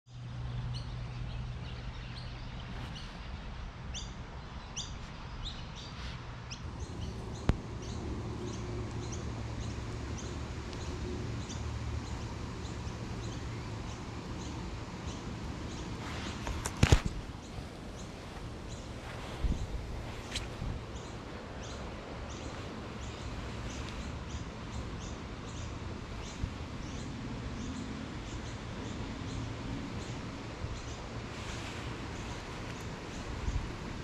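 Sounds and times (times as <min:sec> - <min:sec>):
low background hum: 0:00.1 - 0:34.0
small birds chirping: 0:00.1 - 0:34.0.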